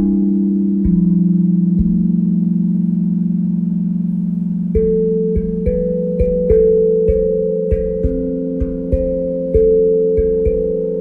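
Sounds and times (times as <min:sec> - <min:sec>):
steel tongue drum notes: 0:00.0 - 0:11.0.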